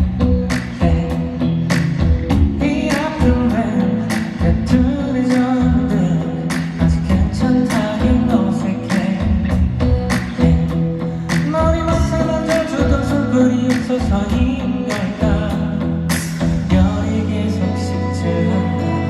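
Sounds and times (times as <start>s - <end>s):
steady drum beat: 0.0s - 17.1s
bass line: 0.0s - 19.0s
person singing: 0.0s - 19.0s.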